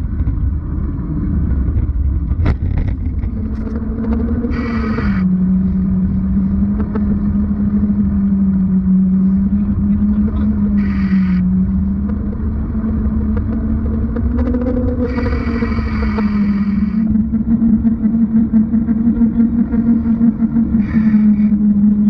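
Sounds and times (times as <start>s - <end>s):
muffled road noise drone: 0.0s - 22.0s.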